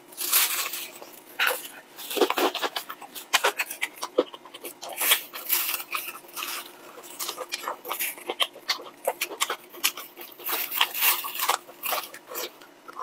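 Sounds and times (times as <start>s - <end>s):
crunching fried chicken: 0.0s - 13.0s
wet chewing: 0.2s - 13.0s.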